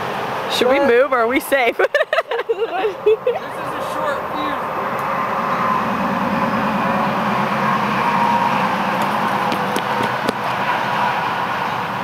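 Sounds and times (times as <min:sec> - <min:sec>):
outdoor background hiss and rumble: 0:00.0 - 0:12.0.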